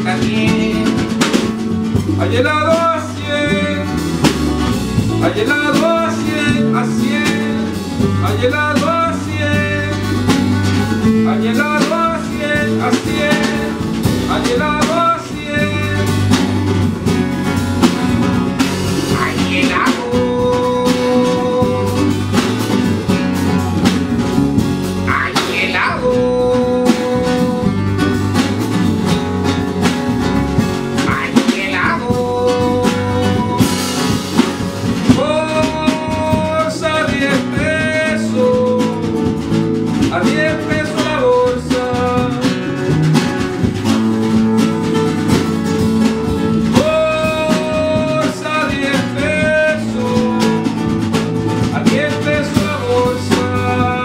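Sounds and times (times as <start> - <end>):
guitar: 0.0 - 54.0
steady drum beat: 0.0 - 54.0.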